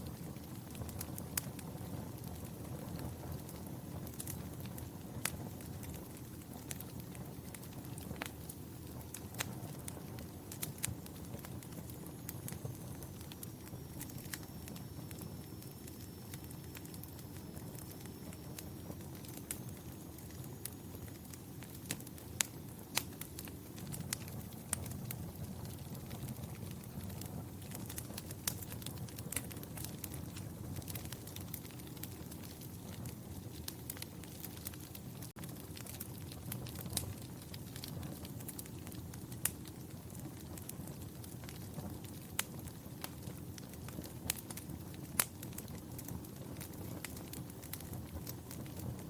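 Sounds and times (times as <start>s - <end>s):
fire sharp pops and snaps: 0.0s - 49.0s
wood fire crackling: 0.0s - 49.0s.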